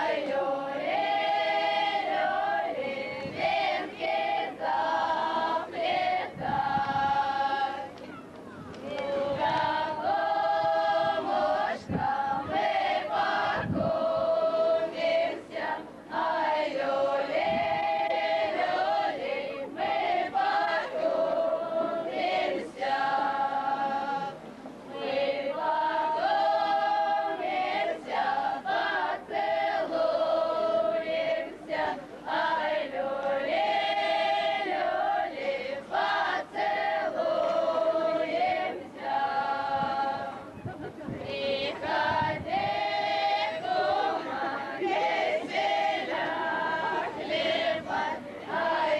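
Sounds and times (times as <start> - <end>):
choir singing: 0.0 - 7.9, 8.9 - 40.4, 41.3 - 48.9.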